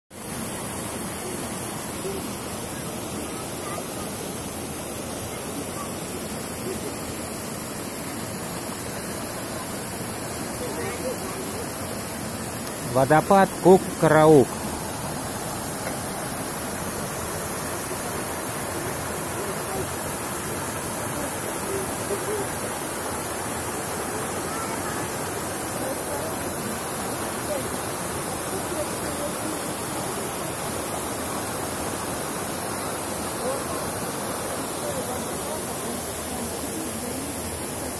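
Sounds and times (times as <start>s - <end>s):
water running over rocks: 0.1s - 37.9s
waterfall rushing: 0.2s - 37.9s.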